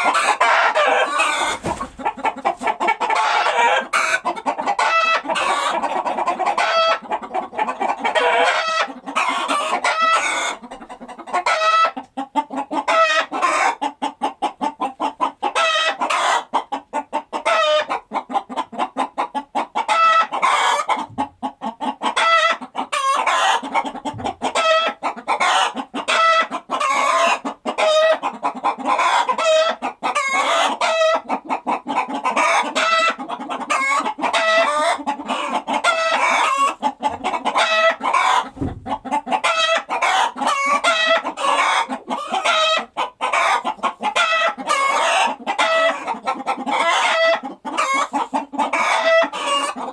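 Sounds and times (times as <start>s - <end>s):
chickens clucking and squawking: 0.0s - 49.9s.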